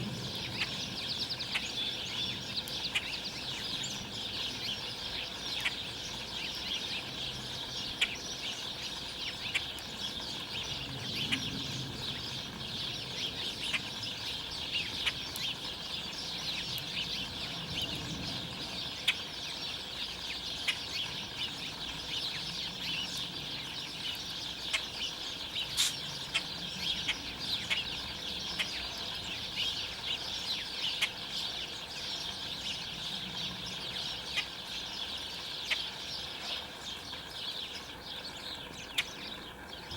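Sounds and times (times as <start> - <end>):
flock of songbirds chattering: 0.0 - 39.9.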